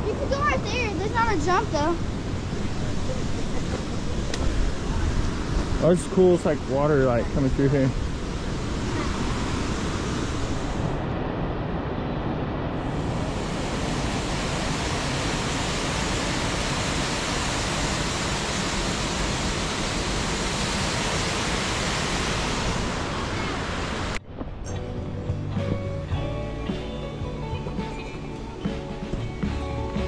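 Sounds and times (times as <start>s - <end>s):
rushing water: 0.0s - 24.2s.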